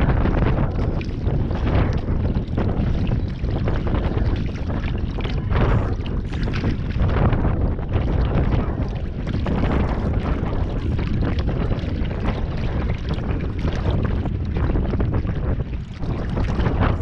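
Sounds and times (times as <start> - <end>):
wind buffeting microphone: 0.0 - 17.0
river water lapping and splashing: 0.1 - 17.0.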